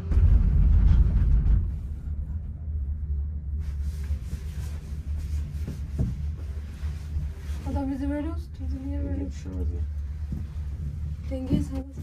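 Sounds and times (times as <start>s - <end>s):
cable car rumble and hum: 0.0s - 12.0s.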